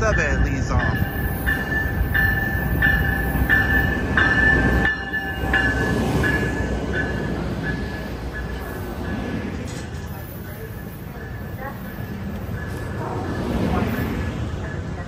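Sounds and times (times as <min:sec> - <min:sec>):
locomotive bell ringing: 0:00.0 - 0:15.0
locomotive engine and wheels rumbling: 0:00.0 - 0:15.0.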